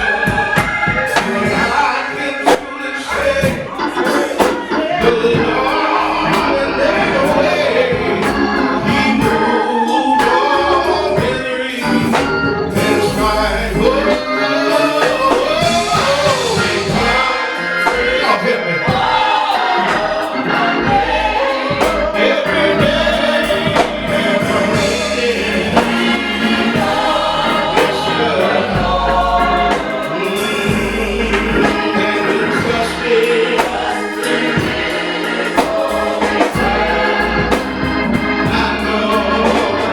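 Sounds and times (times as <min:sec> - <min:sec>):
gospel choir singing: 0:00.0 - 0:39.9
organ and band accompaniment: 0:00.0 - 0:39.9.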